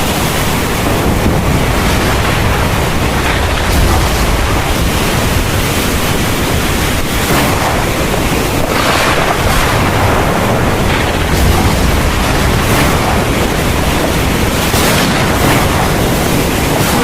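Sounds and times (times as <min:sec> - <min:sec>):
heavy rain pouring: 0:00.0 - 0:17.0
low rumble: 0:00.2 - 0:17.0.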